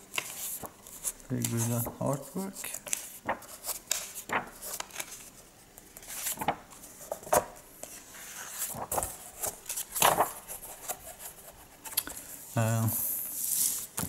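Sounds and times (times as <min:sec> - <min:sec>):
pages turning and rustling: 0:00.0 - 0:12.0, 0:13.4 - 0:14.0.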